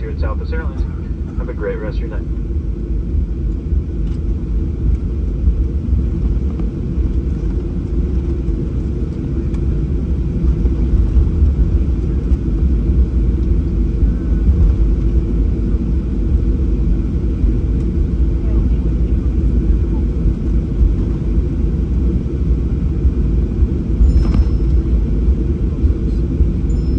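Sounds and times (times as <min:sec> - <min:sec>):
aircraft cabin rumble: 0:00.0 - 0:26.9.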